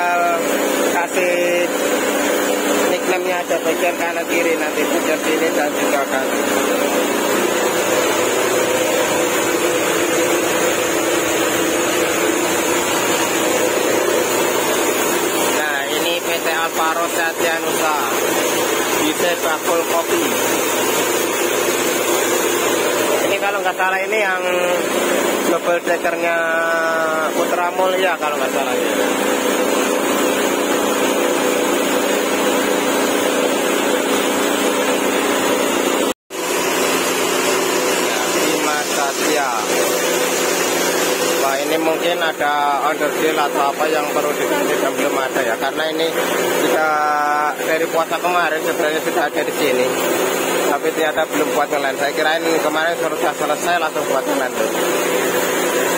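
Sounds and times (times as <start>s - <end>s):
workshop machinery droning: 0.0s - 55.9s.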